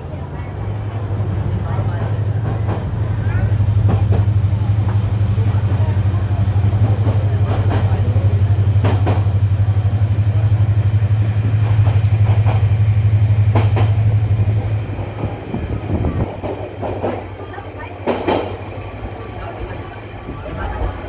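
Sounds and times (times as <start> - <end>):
train running drone: 0.0 - 21.0
wheels clacking on rails: 0.0 - 21.0.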